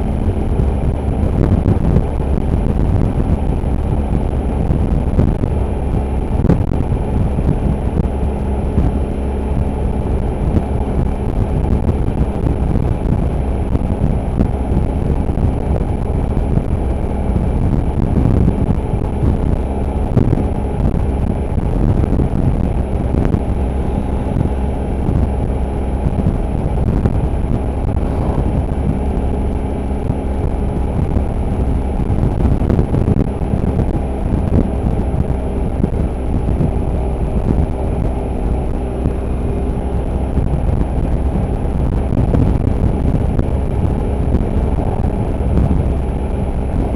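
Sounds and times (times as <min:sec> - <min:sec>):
low wind rumble: 0:00.0 - 0:46.9
motorcycle engine running: 0:00.0 - 0:46.9.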